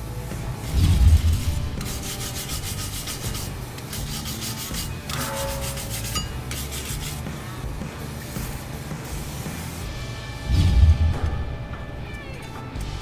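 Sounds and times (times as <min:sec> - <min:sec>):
wire brush scrubbing metal: 0:00.4 - 0:13.0.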